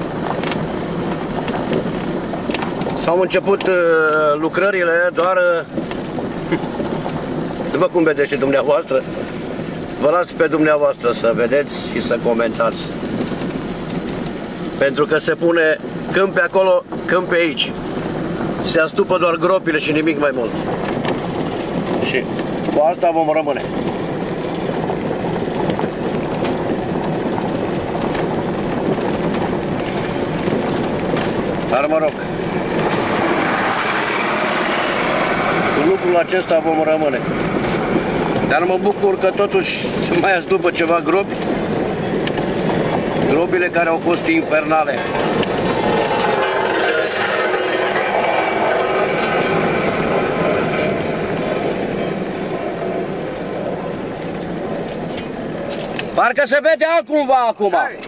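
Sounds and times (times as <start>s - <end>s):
car rolling over gravel: 0.0s - 58.0s.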